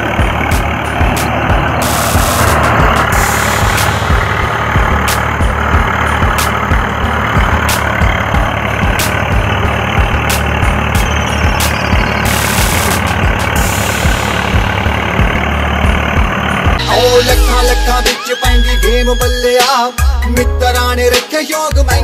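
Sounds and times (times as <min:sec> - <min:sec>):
tractor diesel engine running: 0:00.0 - 0:21.2.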